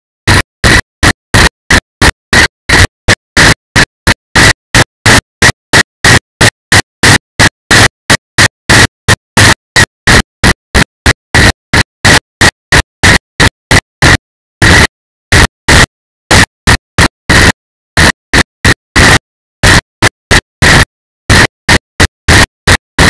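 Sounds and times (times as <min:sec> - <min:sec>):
distorted static bursts: 0:00.3 - 0:23.0.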